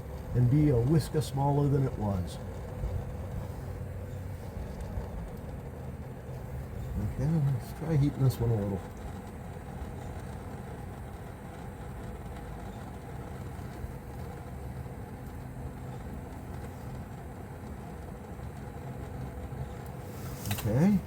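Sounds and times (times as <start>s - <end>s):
torch flame rushing: 0.0s - 21.0s.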